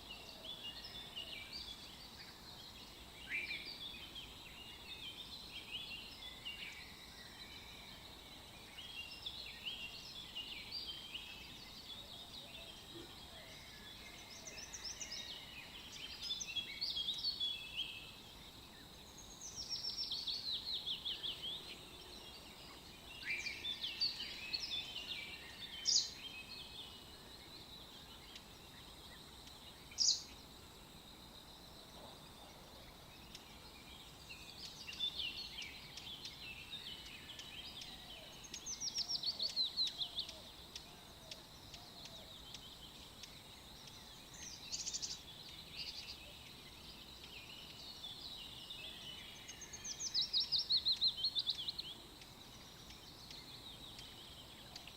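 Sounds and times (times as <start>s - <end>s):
faint steady hiss: 0.0s - 54.9s
small birds singing and chirping: 0.0s - 54.9s.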